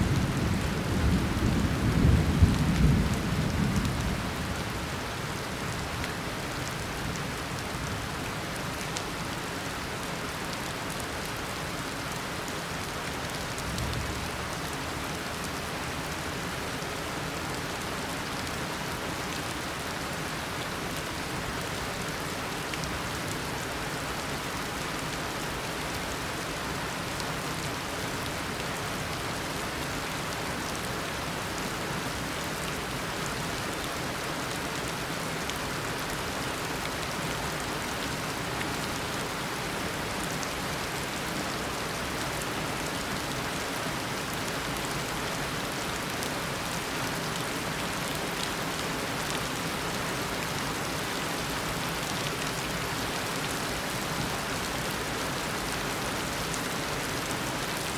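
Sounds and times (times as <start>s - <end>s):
raindrops pattering: 0.0s - 57.9s.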